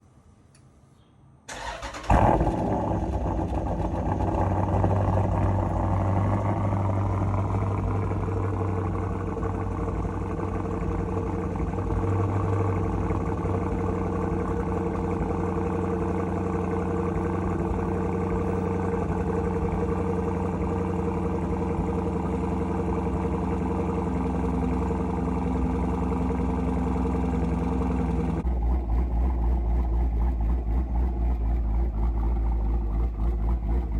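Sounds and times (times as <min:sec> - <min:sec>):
car engine idling: 0:01.5 - 0:33.9.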